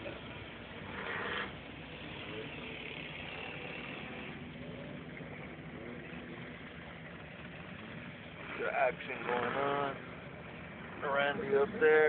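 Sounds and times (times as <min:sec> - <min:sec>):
engine running from inside cab: 0:00.0 - 0:12.0.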